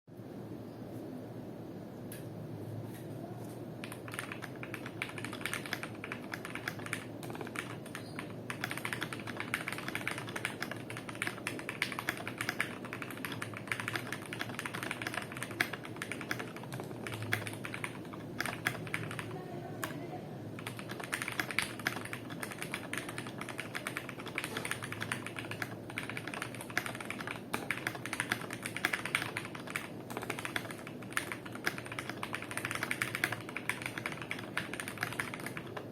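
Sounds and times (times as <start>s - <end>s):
fast typing on mechanical keyboard: 3.8s - 35.9s.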